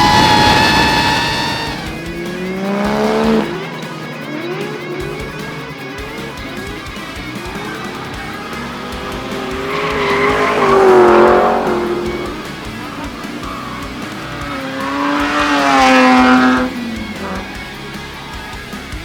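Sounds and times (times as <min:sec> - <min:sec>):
background guitar music: 0:00.0 - 0:19.0
high-revving car engine passing: 0:00.0 - 0:19.0.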